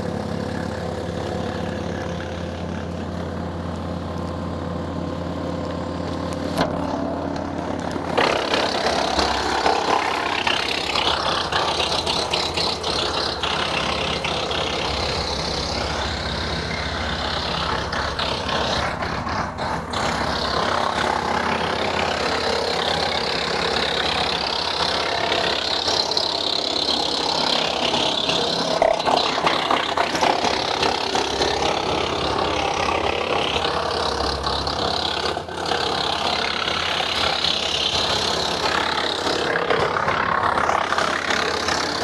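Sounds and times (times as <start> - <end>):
tractor engine running: 0.0 - 42.0
wood chipper crunching branches: 0.0 - 42.0.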